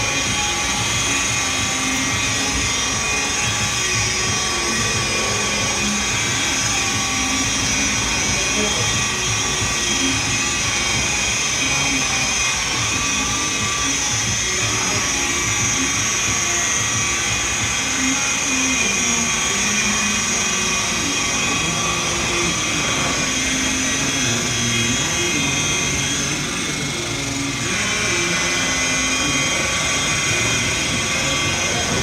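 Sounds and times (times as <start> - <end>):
electric polisher whining: 0.0 - 32.0.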